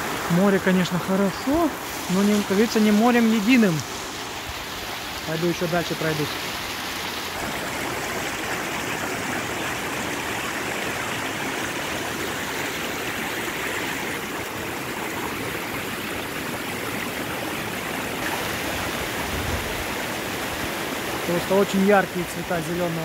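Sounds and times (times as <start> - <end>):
stream rushing over stones: 0.0 - 23.0.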